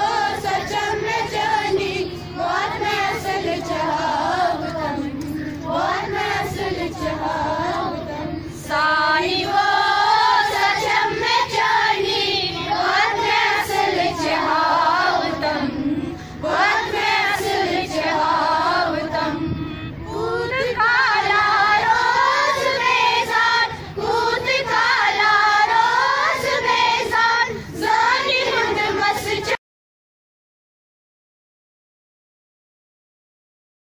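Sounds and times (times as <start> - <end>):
children and women singing prayer: 0.0 - 29.6.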